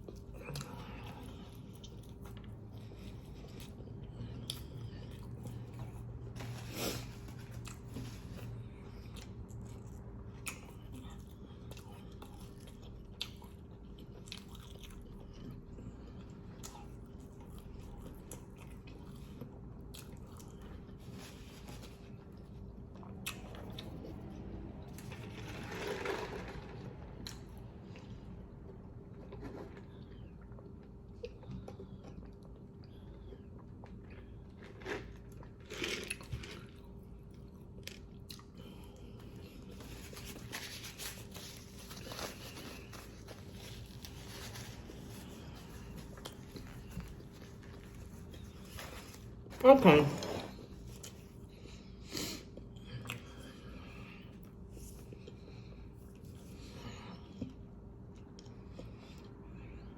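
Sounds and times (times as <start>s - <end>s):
chewing and biting sandwich: 0.0s - 49.6s
steady low hum: 0.0s - 59.9s.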